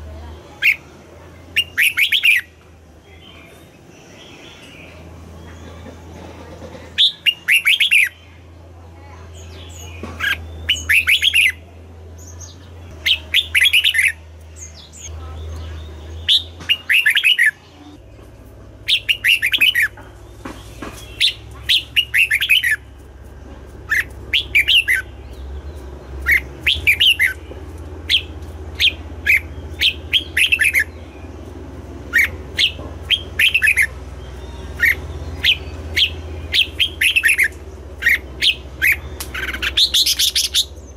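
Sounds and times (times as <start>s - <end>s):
steady low hum: 0.0s - 40.9s
bird chirping: 0.6s - 8.5s, 9.2s - 40.9s.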